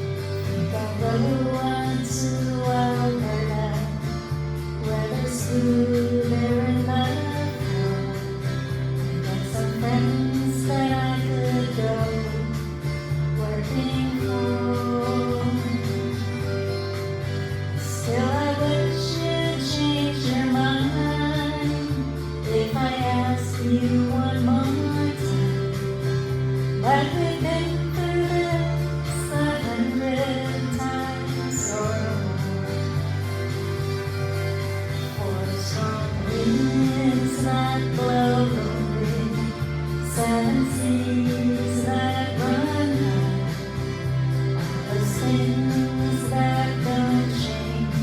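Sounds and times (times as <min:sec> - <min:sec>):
guitar: 0:00.0 - 0:48.0
woman singing folk song: 0:00.0 - 0:48.0.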